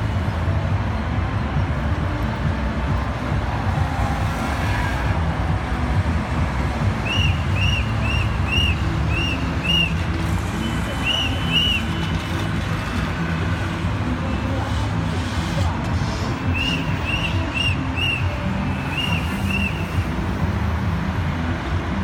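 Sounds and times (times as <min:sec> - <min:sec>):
traffic engines rumbling: 0:00.0 - 0:22.0.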